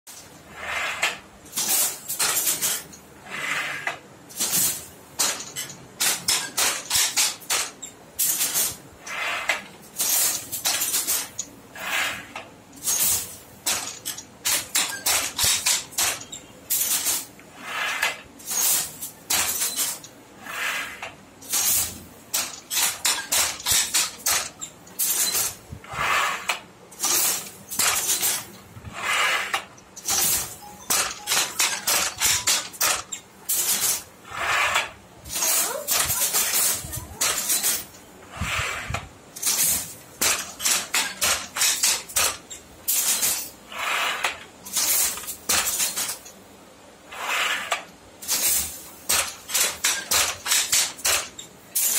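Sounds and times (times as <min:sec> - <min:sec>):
handloom clacking: 0:00.1 - 0:46.4, 0:47.2 - 0:51.9.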